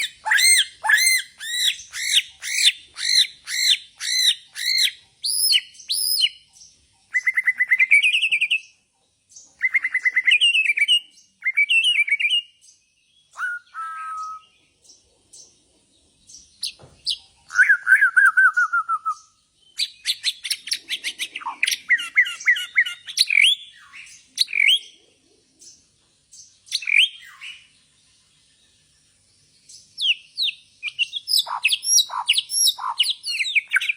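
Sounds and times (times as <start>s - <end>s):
bird singing varied song: 0.0s - 33.9s.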